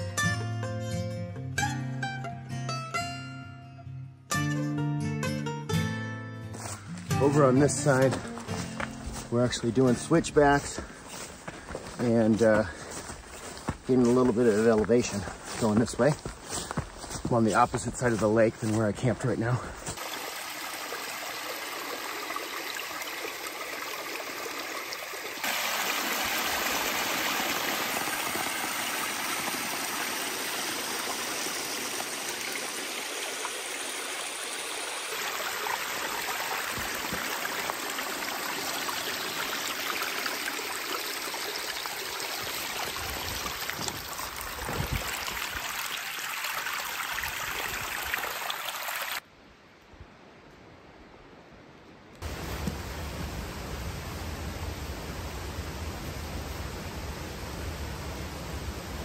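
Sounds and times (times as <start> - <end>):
rushing water: 6.6 - 49.3, 52.2 - 59.0.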